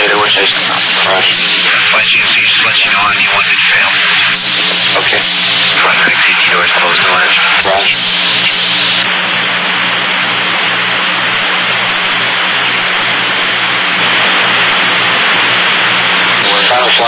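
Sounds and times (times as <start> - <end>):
low electrical hum: 0.0 - 17.0
radio hiss: 0.0 - 17.0.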